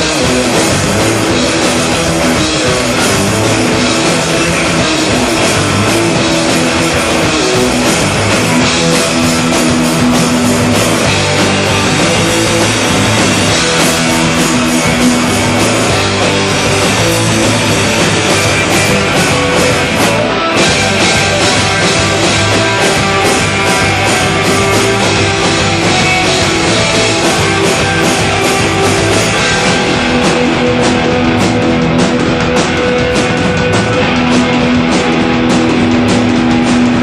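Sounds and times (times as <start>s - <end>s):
distorted electric guitars: 0.0s - 37.0s
drums with steady beats: 0.0s - 37.0s.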